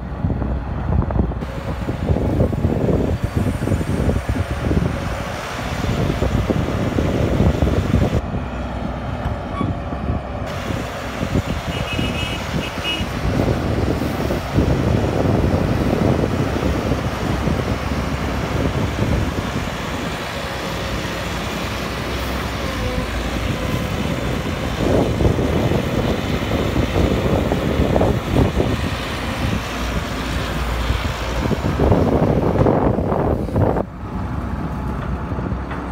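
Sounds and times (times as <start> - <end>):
excavator diesel engine rumble: 0.0 - 35.9.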